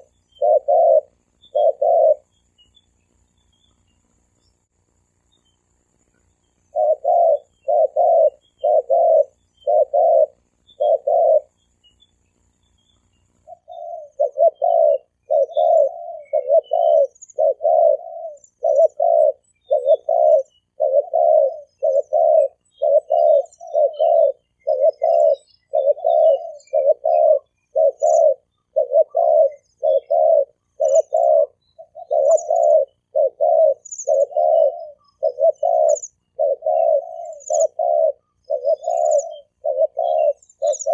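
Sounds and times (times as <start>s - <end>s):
dove cooing: 0.0s - 2.4s, 6.6s - 11.6s, 13.4s - 40.9s.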